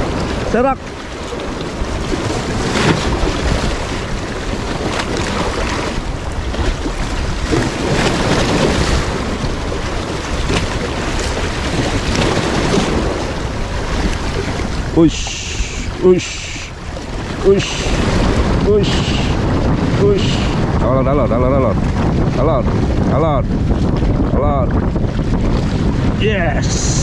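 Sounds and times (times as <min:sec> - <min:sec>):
waves washing against rocks: 0:00.0 - 0:27.0
wind buffeting microphone: 0:00.0 - 0:27.0.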